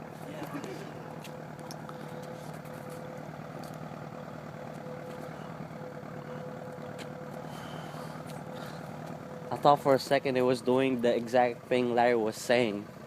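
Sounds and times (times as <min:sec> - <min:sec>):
aircraft engine idling: 0:00.0 - 0:13.0.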